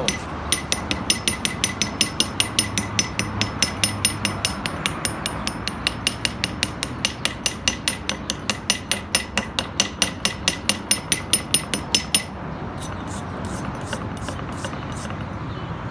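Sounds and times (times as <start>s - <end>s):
hammer striking steel: 0.0s - 15.2s.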